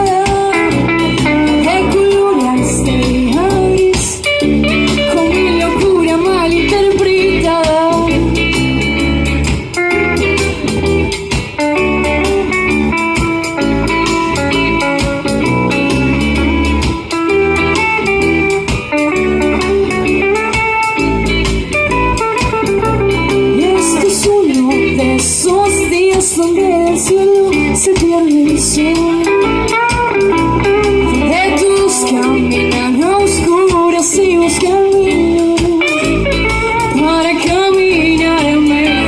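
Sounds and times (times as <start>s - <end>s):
rock band playing live: 0.0s - 39.0s.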